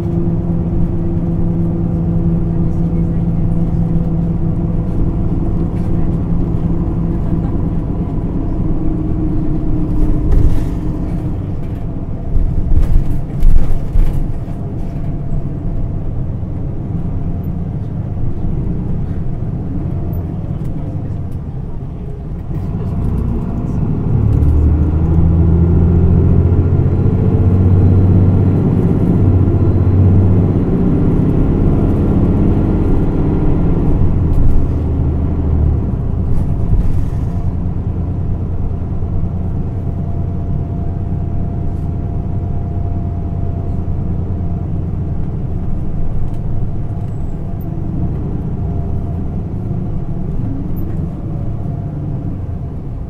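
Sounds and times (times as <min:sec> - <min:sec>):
bus diesel engine droning: 0:00.0 - 0:53.0.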